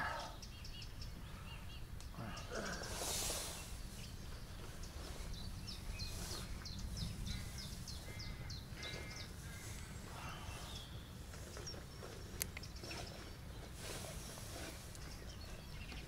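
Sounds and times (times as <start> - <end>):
wild birds calling: 0.0 - 16.0.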